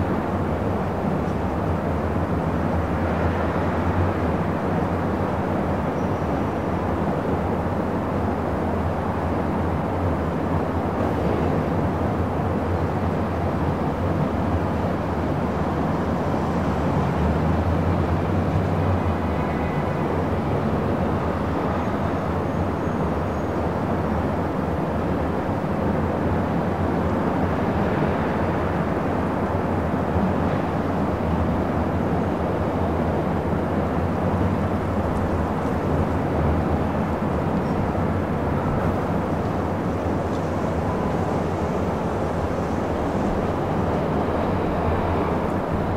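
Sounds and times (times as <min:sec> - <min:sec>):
dense city traffic rumble: 0:00.0 - 0:45.9.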